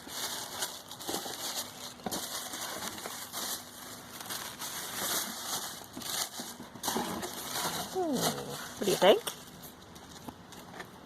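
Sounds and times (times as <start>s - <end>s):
paper and cardboard rustling: 0.0s - 11.0s.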